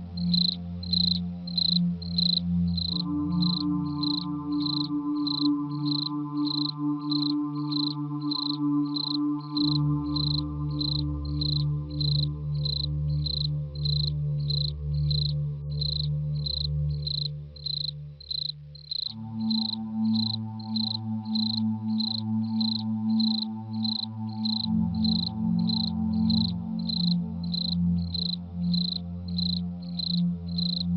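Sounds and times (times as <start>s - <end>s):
cricket chirping: 0.0s - 30.9s
low synth drone: 0.0s - 30.9s.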